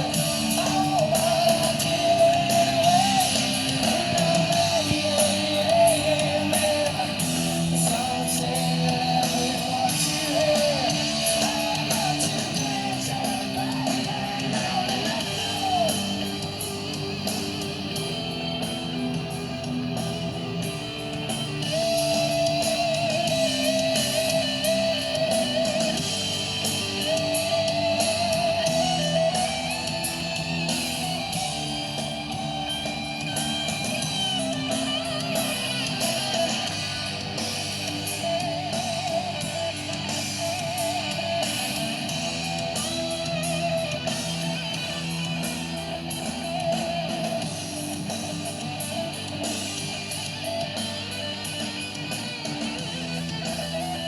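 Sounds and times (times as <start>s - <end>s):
rock song with strummed electric guitar: 0.0s - 54.0s.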